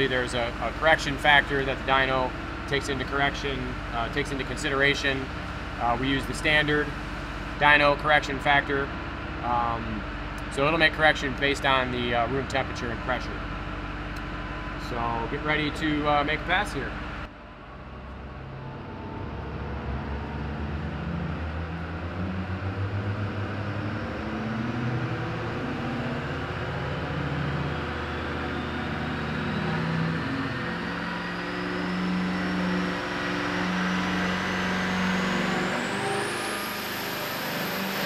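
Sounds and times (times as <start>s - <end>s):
diesel engine running under load: 0.0s - 38.0s
turbo whine rising in pitch: 0.0s - 38.0s.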